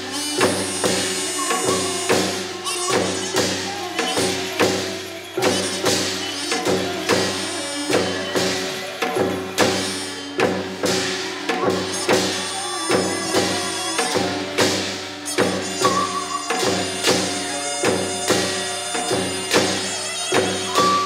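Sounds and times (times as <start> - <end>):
percussion beats: 0.0 - 21.0
wind instrument melody: 0.0 - 21.0.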